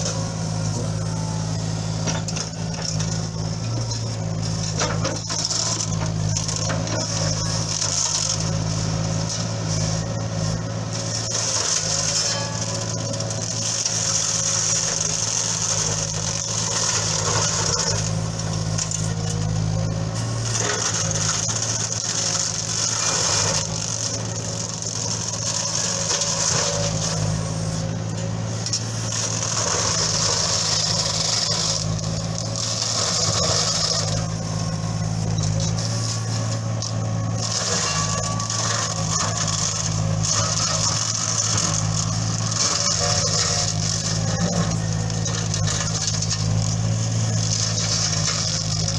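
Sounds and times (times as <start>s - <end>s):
diesel engine running under load: 0.0s - 48.9s
flail mulcher shredding trees: 0.0s - 48.9s.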